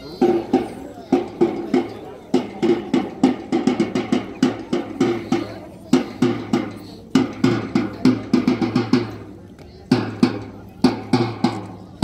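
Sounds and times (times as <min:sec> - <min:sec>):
marching drum beating: 0:00.1 - 0:12.0.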